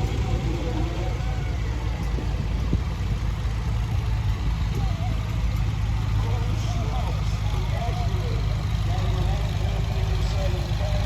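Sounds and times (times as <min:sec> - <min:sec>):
tractor engines rumbling: 0:00.0 - 0:11.0.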